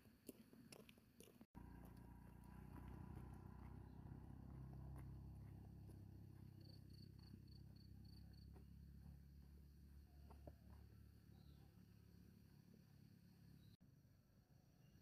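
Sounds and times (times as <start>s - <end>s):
distant motorcycle engine hum: 1.6s - 13.8s.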